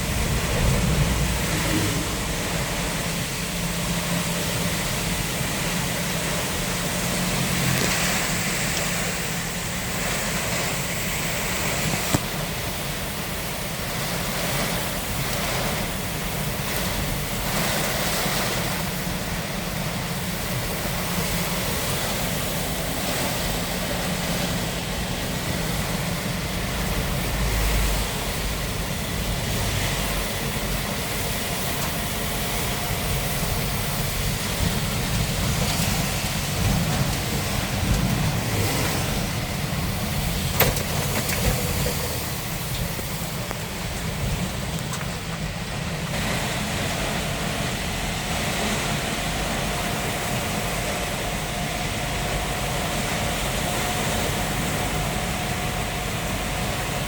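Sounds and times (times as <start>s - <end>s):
road noise: 0.0s - 57.0s
truck engine drone: 0.0s - 57.0s.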